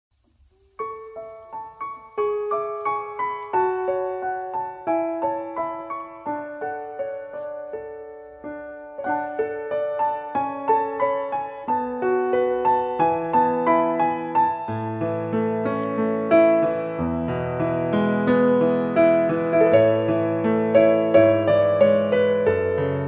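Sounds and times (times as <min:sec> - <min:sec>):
slow piano music: 0:00.3 - 0:23.0.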